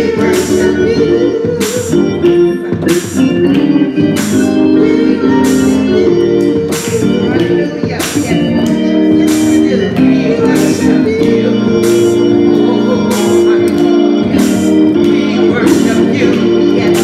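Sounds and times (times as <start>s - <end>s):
gospel organ chords: 0.0s - 17.0s.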